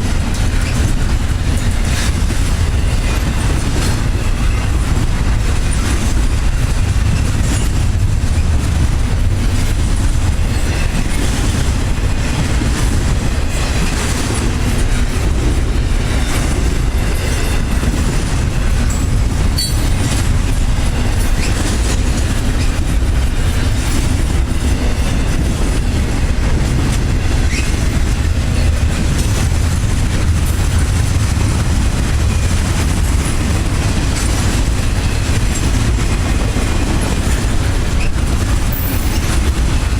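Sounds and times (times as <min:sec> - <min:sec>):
train wheels clicking and rumbling: 0:00.0 - 0:39.9.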